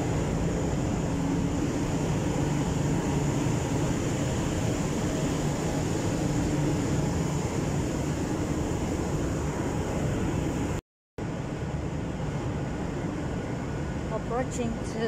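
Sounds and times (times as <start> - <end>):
mechanical hum with low rumble: 0.0 - 15.0.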